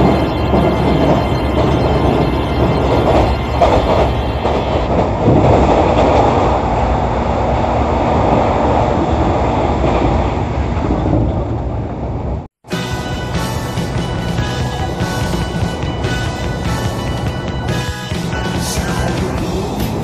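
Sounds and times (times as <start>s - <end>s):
passing train rushing by: 0.0s - 20.0s
train rumbling over bridge: 0.0s - 20.0s.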